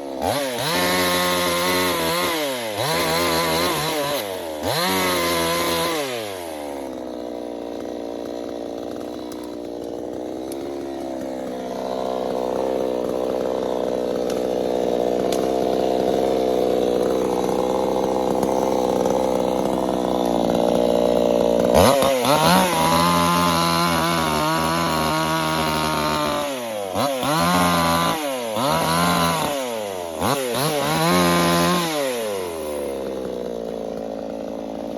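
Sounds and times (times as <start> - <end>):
chainsaw engine revving and idling: 0.0 - 34.9.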